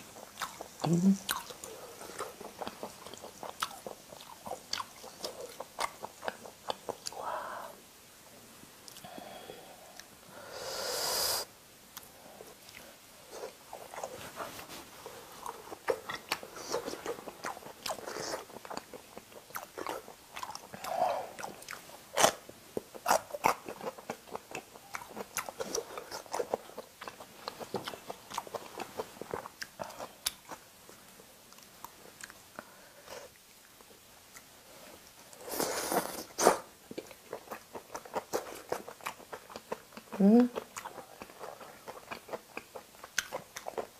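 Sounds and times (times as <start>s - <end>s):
person chewing meat: 0.0s - 7.2s, 12.0s - 43.9s.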